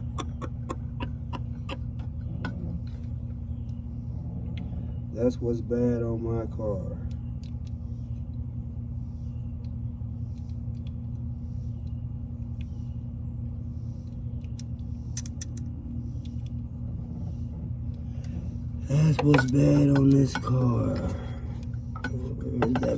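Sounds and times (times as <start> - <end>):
engine idling: 0.0 - 22.9.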